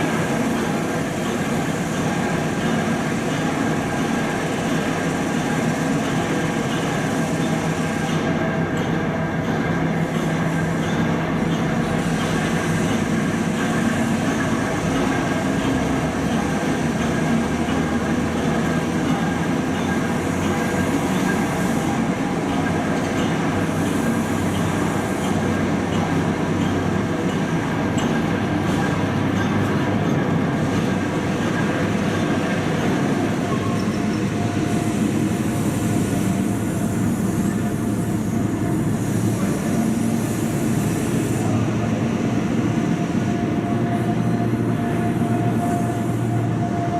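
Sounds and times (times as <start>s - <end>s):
train engine drone: 0.0s - 46.9s.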